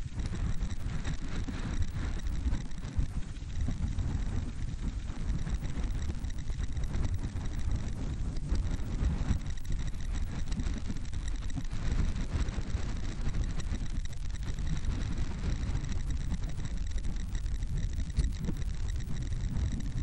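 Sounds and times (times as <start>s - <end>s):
aircraft engine drone overhead: 0.0s - 20.0s
wind buffeting the microphone: 0.0s - 20.0s.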